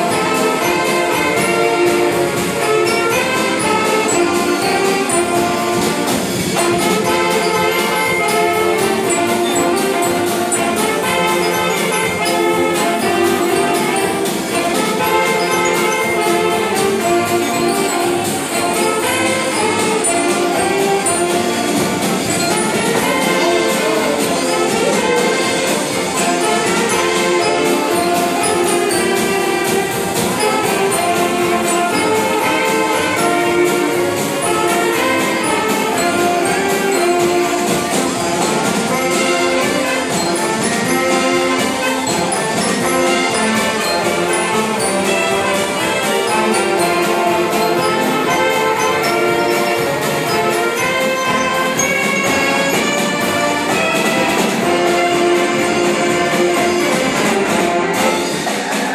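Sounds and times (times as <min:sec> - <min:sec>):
accordions: 0:00.0 - 0:58.9
banjo: 0:00.0 - 0:58.9
saxophones: 0:00.0 - 0:58.9
snare and bass drum: 0:00.0 - 0:58.9.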